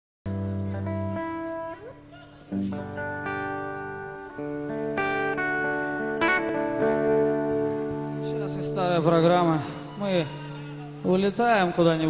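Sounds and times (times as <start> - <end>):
amplified guitars playing chords: 0.3 - 12.0.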